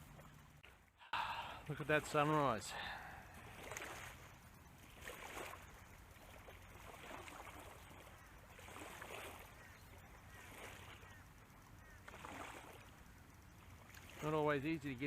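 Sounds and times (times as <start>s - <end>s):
small ripples lapping: 0.0s - 15.0s.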